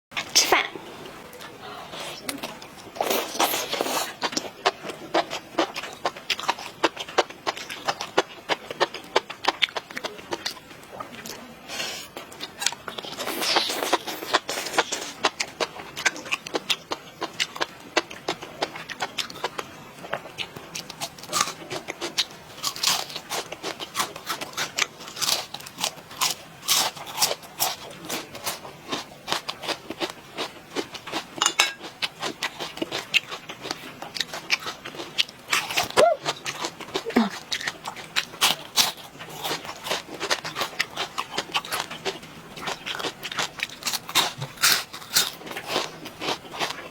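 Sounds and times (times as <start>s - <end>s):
crunching and chewing: 1.1s - 46.9s.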